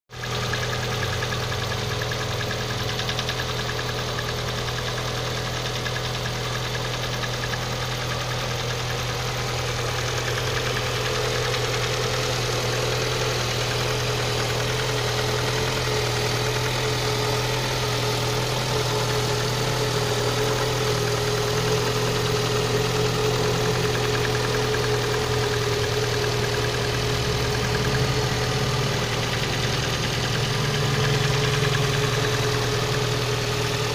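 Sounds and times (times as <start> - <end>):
engine idling: 0.1 - 33.9
rhythmic engine knock: 0.2 - 33.9.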